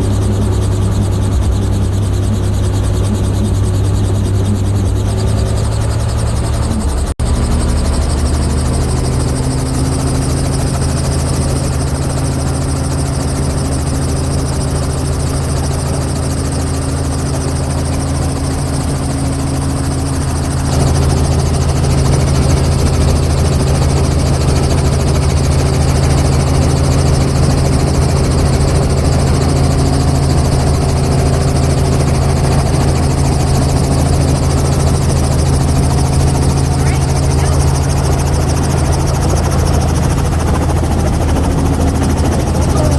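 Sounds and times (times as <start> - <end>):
helicopter rotor and engine drone: 0.0 - 42.9.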